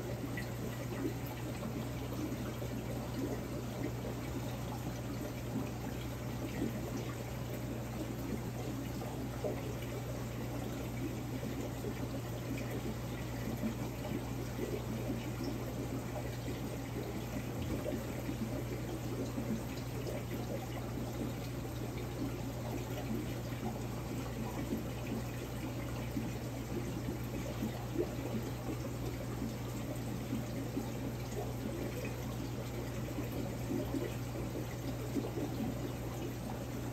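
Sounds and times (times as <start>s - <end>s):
water rushing and bubbling: 0.0s - 36.9s.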